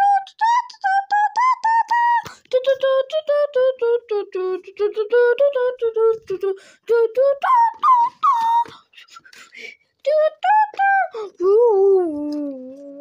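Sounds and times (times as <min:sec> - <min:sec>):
child singing: 0:00.0 - 0:08.9, 0:10.0 - 0:13.0.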